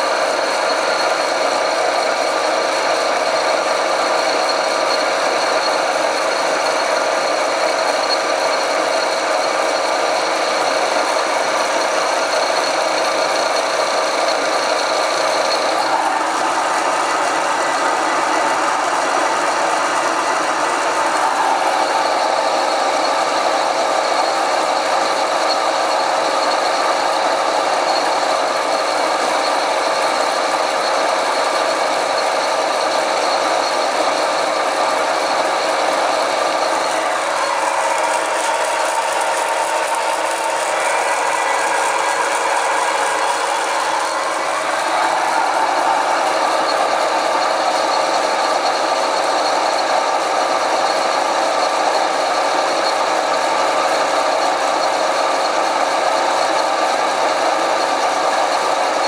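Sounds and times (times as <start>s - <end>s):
high steady whine: 0.0s - 58.8s
lathe drone with cutting noise: 0.0s - 59.0s.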